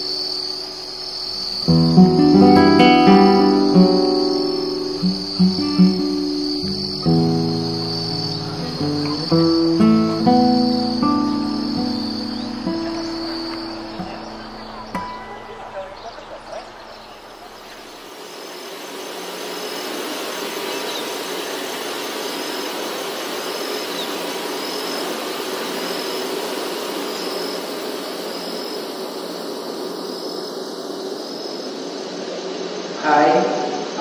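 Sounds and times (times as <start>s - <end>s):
faint high chirps: 0.0s - 32.8s
machinery hiss and hum: 0.0s - 34.0s.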